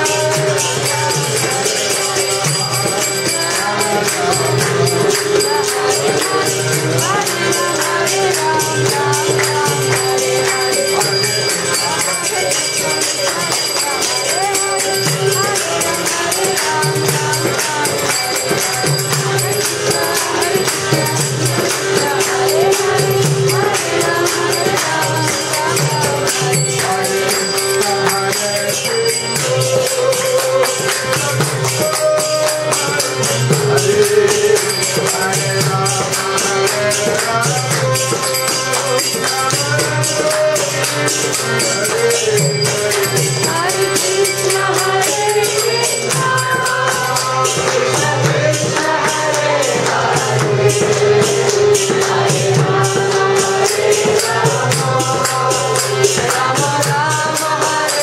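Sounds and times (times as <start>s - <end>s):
hand cymbals jingling: 0.0s - 58.0s
harmonium: 0.0s - 58.0s
men singing a chant in unison: 0.0s - 58.0s.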